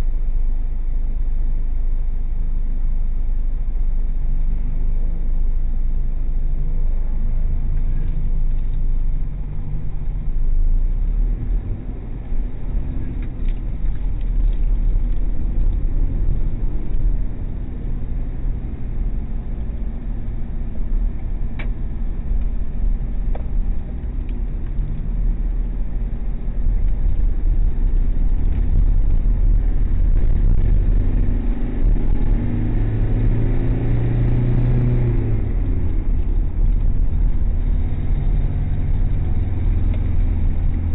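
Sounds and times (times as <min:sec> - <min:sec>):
car engine: 0:00.0 - 0:40.9
road rumble: 0:00.0 - 0:40.9.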